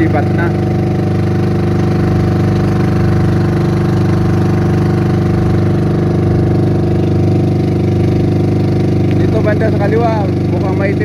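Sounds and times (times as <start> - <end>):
boat engine drone: 0.0 - 11.0.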